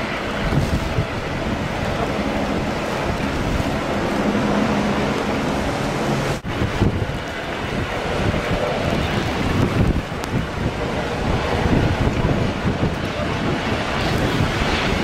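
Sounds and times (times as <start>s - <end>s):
rough sea: 0.0s - 15.0s
strong wind on microphone: 0.0s - 15.0s.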